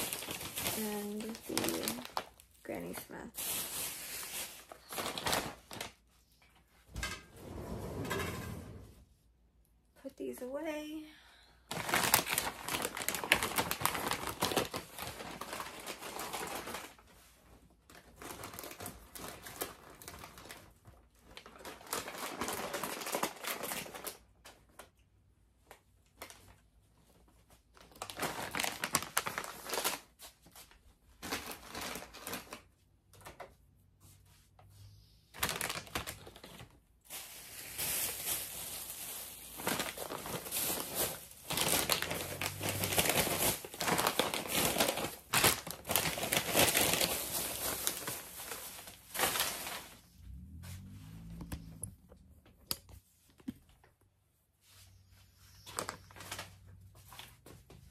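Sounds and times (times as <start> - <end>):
plastic snack bags rustling: 0.0 - 6.2, 11.6 - 33.9, 34.6 - 52.3, 55.1 - 57.9.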